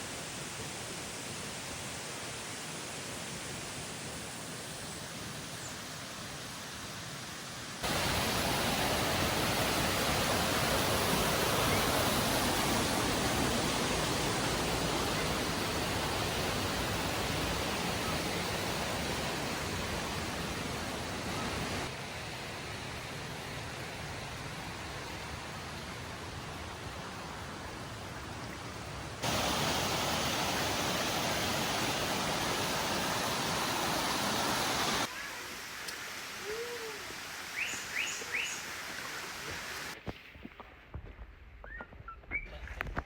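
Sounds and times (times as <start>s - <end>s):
running water rushing: 0.0s - 40.5s.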